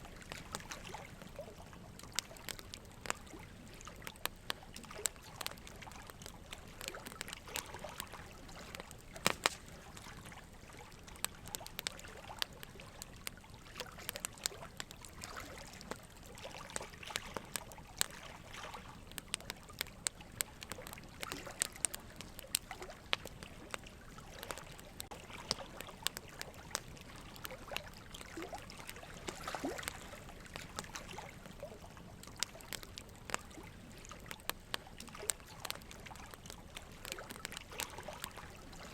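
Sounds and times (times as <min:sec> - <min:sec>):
small clicks and crackles: 0:00.0 - 0:38.9.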